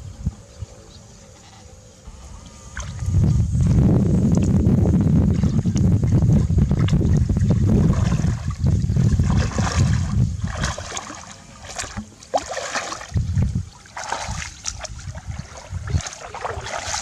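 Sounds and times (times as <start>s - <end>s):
wind rumble on microphone: 0.0s - 1.7s, 2.4s - 17.0s
water splashing and sloshing: 2.7s - 4.6s, 5.2s - 17.0s.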